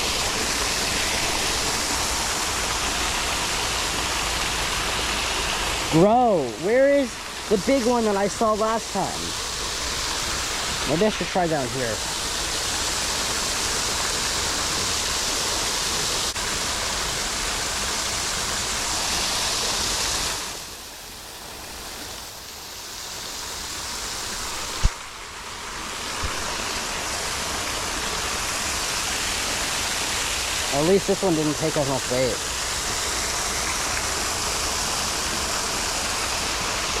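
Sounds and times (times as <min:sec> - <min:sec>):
small waterfall rushing: 0:00.0 - 0:37.0.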